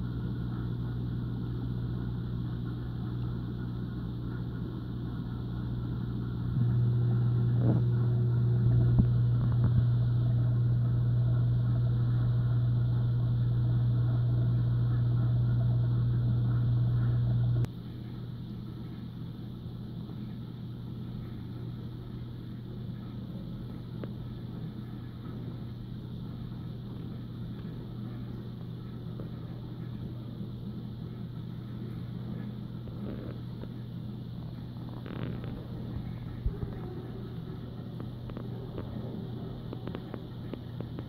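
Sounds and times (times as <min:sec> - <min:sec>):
aquarium pump electric hum: 0:00.0 - 0:41.0.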